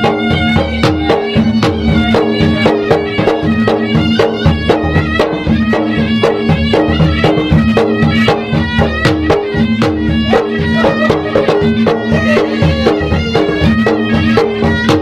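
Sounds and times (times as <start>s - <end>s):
fast driving drum strokes: 0.0s - 15.0s
reedy wind instrument melody: 0.0s - 15.0s.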